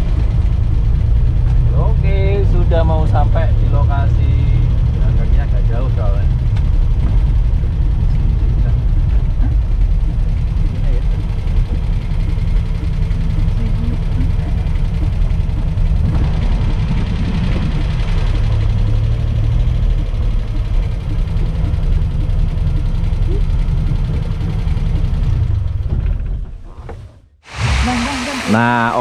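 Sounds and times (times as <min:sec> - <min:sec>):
car engine running: 0:00.0 - 0:29.0
road noise: 0:00.0 - 0:29.0.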